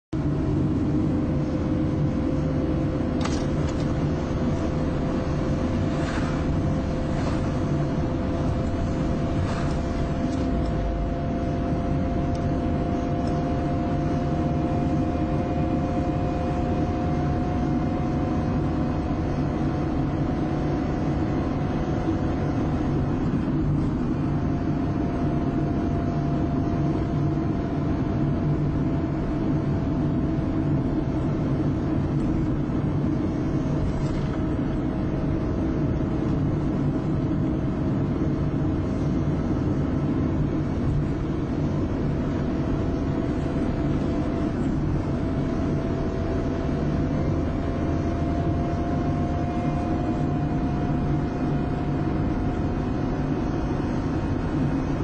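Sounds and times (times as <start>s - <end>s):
engine and road rumble: 0.0s - 55.0s
constant whine: 0.1s - 55.0s.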